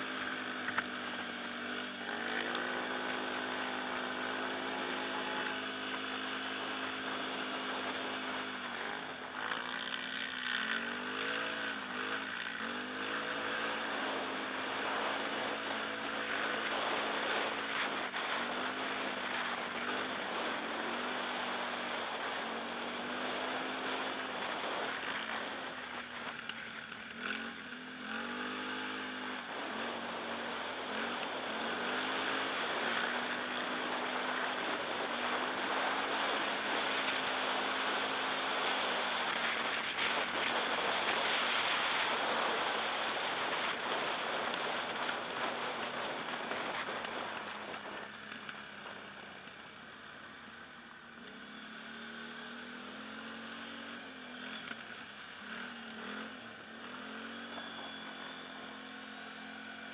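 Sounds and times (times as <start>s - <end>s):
quad bike engine revving: 0.0s - 49.8s, 51.0s - 59.9s.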